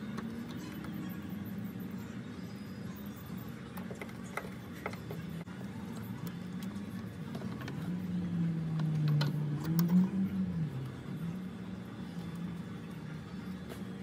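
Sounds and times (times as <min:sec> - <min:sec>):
low wavering hum: 0:00.0 - 0:14.0.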